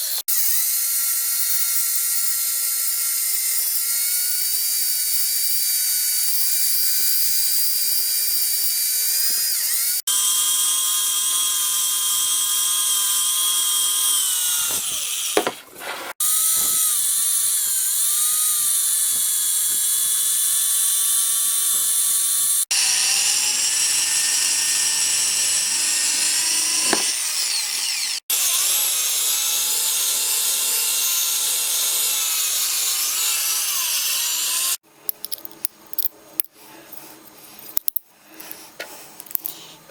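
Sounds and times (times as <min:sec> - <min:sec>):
rotary power tool whining: 0:00.0 - 0:34.8.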